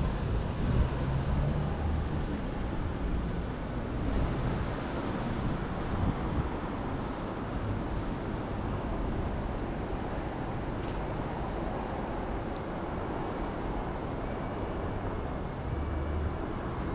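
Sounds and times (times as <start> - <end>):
road traffic rumble: 0.0 - 16.9.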